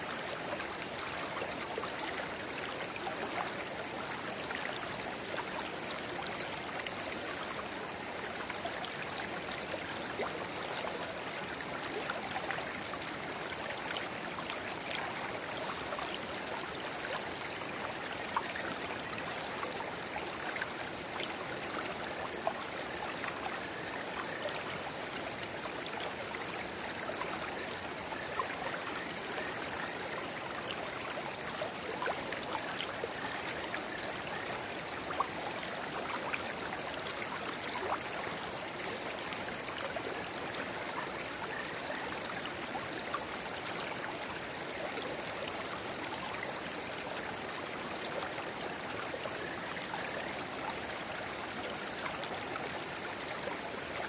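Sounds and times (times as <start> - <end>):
shallow river babbling: 0.1 - 54.0
small water splashes and plinks: 0.1 - 54.0.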